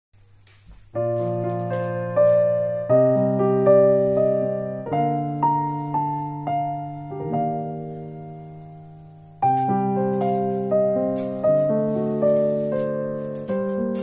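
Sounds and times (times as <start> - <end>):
slow piano music: 0.3 - 14.0.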